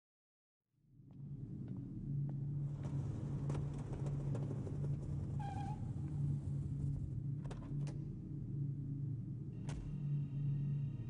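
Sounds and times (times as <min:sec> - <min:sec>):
low ambient soundtrack drone: 0:00.9 - 0:11.0.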